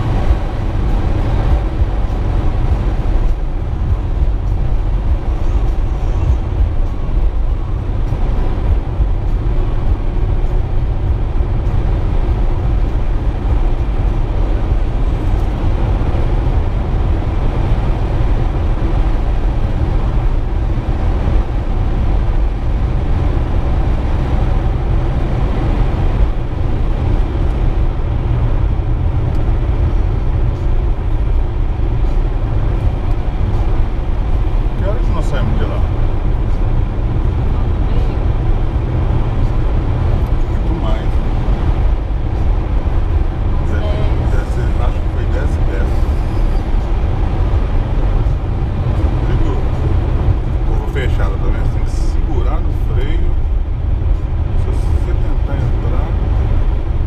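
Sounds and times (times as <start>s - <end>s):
car driving at highway speed: 0.0s - 57.0s.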